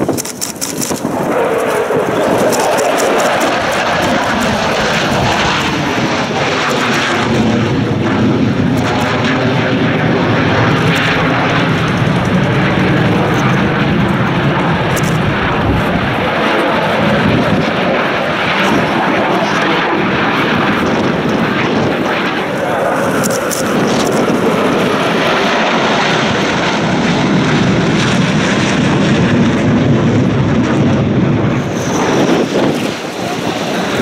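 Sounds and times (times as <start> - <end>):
fighter jet flying past: 0.0 - 34.0.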